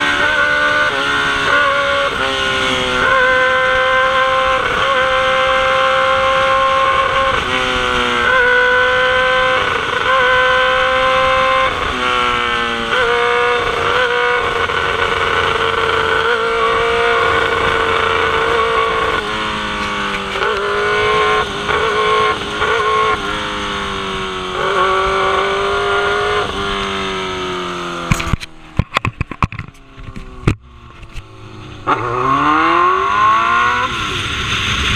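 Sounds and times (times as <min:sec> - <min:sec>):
motorcycle engine shifting gears: 0:00.0 - 0:34.9
wind and road rush: 0:00.0 - 0:34.9.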